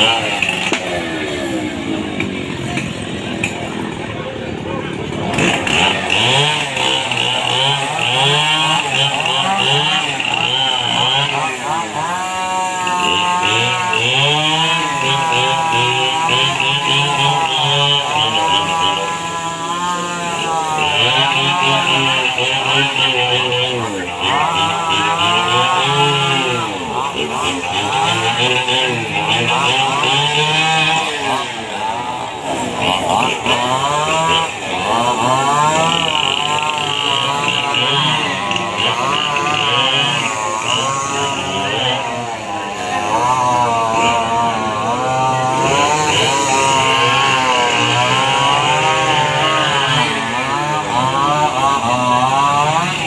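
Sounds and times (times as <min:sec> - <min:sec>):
small petrol engine revving: 0:00.0 - 0:53.0.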